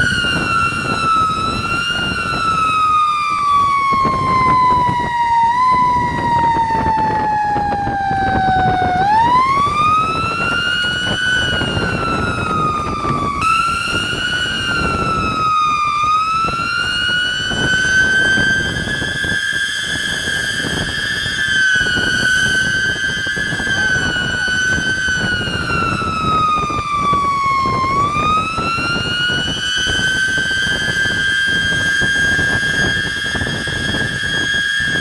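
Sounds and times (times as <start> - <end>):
fire truck siren wailing: 0.0 - 35.0.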